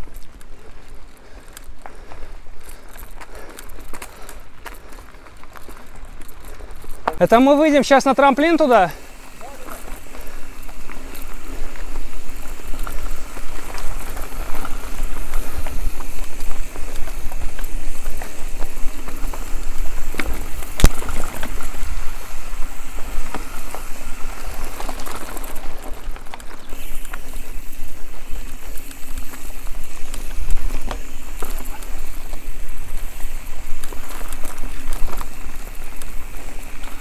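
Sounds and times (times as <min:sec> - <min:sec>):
bike tyres on dirt trail: 0:00.0 - 0:37.0
small rattles and clicks: 0:00.0 - 0:37.0.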